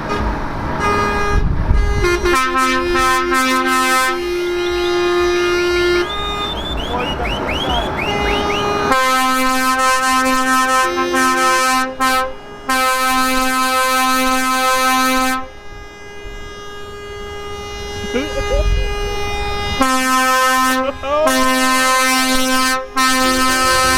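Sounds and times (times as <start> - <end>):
truck air horns blaring: 0.0 - 23.9.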